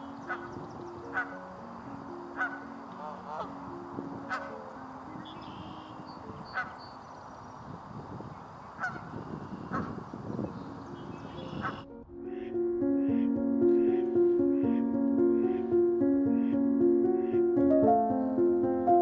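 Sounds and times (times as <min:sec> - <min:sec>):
soft background music: 0:00.0 - 0:07.7, 0:08.8 - 0:19.0
geese honking: 0:00.0 - 0:17.5.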